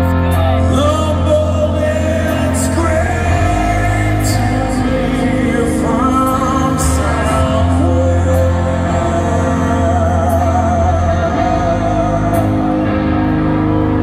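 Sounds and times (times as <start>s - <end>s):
bass: 0.0s - 14.0s
electric guitar: 0.0s - 14.0s
singer's gliding vocal: 0.0s - 14.0s.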